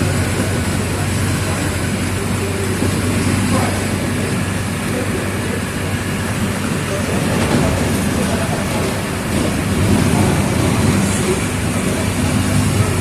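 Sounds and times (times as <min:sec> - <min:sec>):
bus engine humming: 0:00.0 - 0:13.0
road and body noise: 0:00.0 - 0:13.0.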